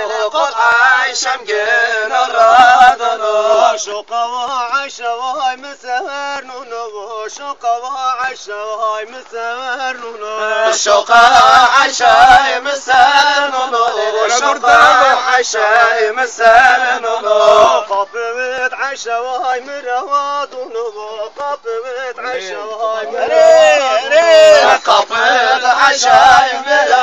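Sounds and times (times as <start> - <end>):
man singing a folk song: 0.0 - 27.0.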